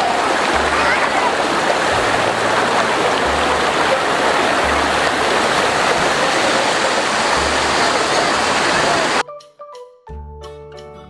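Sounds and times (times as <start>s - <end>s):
fast-flowing water rushing: 0.0s - 9.2s.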